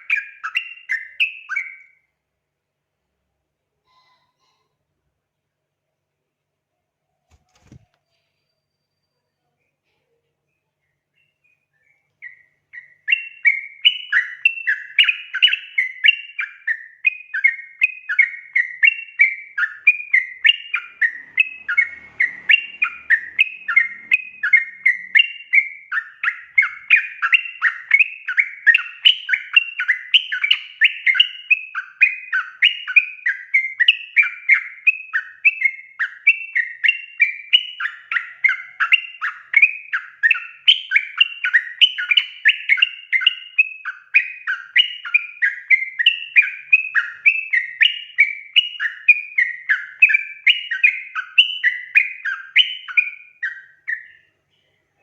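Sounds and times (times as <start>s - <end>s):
bird song chattering: 0.0s - 2.1s, 7.6s - 55.0s.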